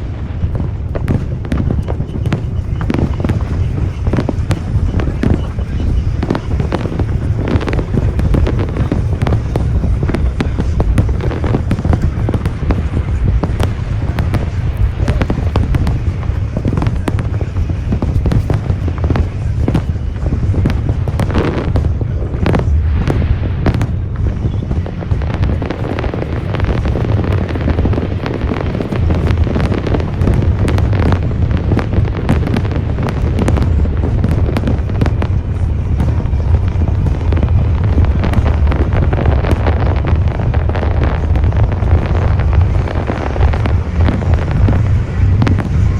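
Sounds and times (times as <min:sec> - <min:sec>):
fireworks bangs and crackling: 0:00.0 - 0:45.9
low rumble: 0:00.0 - 0:45.9.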